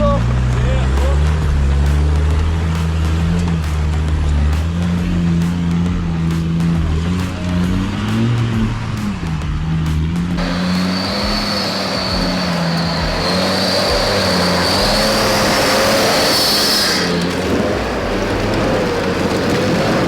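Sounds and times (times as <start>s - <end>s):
engine running hard: 0.0s - 20.0s
high whine: 0.0s - 20.0s
loud rush of noise: 0.0s - 20.0s.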